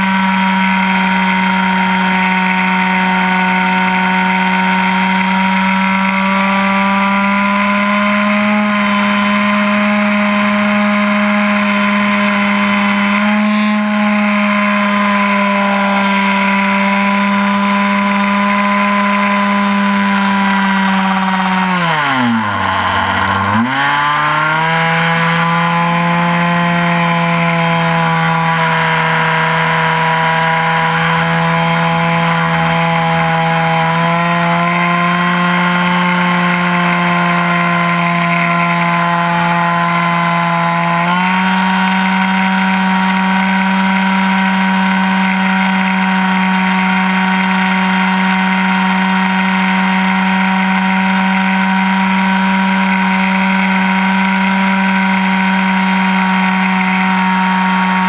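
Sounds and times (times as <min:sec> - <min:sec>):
model plane engine at high revs: 0:00.0 - 0:58.0.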